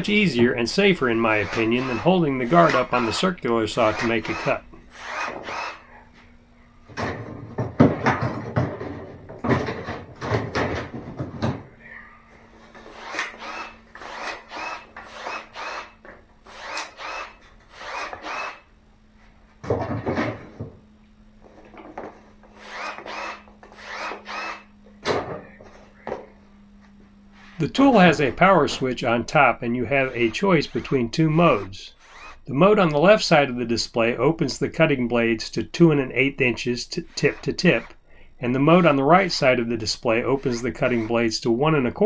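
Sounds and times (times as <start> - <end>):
power shears crunching through wood: 0.0 - 11.6, 12.4 - 20.8, 21.4 - 26.3, 27.3 - 42.0.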